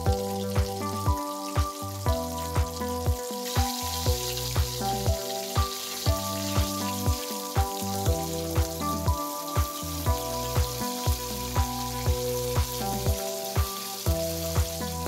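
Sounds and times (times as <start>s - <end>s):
background music with steady beat: 0.0s - 15.0s
chicken wings deep-frying in oil: 0.0s - 15.0s.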